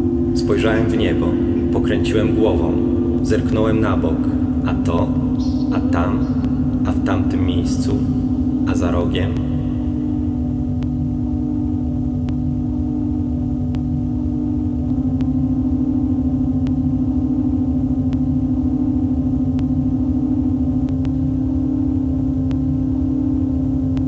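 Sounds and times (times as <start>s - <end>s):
deep rumble: 0.0s - 24.0s
low pulsing hum: 0.0s - 24.0s.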